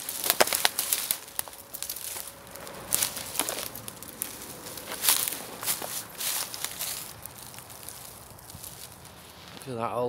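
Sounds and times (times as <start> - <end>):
footsteps through dry leaves: 0.0 - 10.0.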